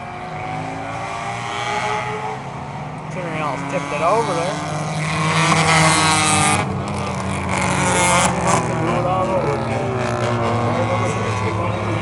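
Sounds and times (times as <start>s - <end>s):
cars rushing past: 0.0s - 12.0s
small race car engines droning: 0.0s - 12.0s.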